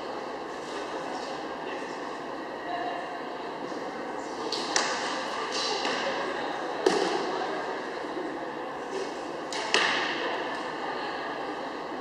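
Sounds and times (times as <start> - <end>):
low murmur of hall: 0.0 - 12.0.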